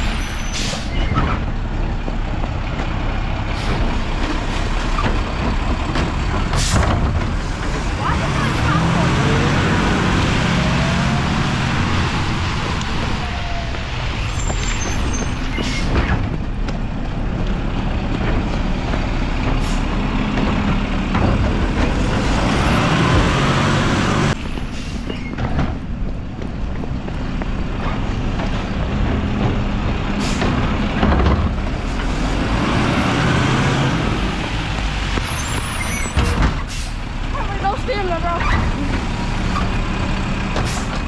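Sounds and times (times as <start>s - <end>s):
truck engine rumble: 0.0s - 41.0s.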